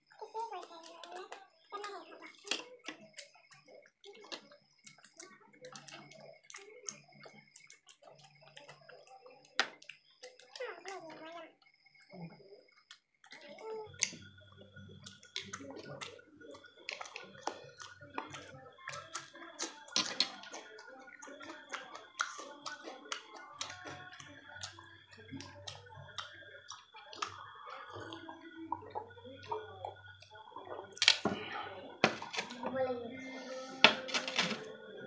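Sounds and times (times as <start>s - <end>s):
people chewing: 0.0s - 35.0s.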